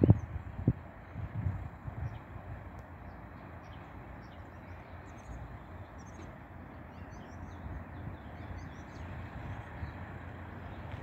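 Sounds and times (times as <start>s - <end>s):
steady low rumble: 0.0s - 11.0s
small birds chirping: 1.9s - 11.0s.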